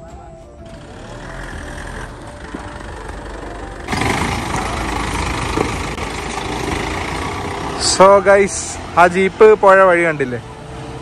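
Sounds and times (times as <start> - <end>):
vehicle engine running: 0.5 - 9.6.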